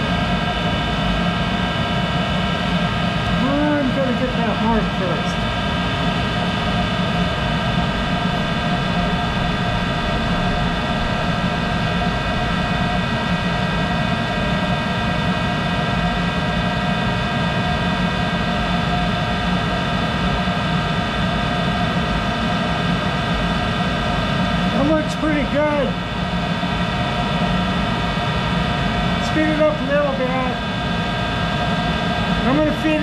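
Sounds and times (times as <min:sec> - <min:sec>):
lathe whining over low rumble: 0:00.0 - 0:33.0.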